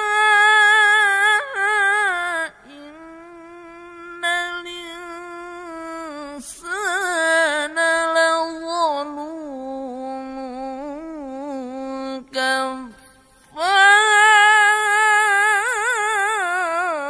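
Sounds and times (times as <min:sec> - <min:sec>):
melodic recitation with held notes: 0:00.0 - 0:17.0.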